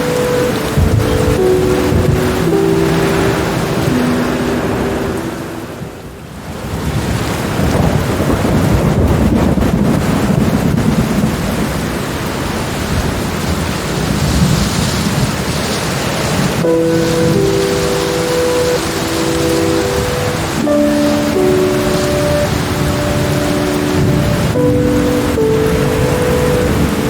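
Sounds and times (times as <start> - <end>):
heavy rain hiss: 0.0 - 27.0
thunder rumbling: 0.0 - 27.0.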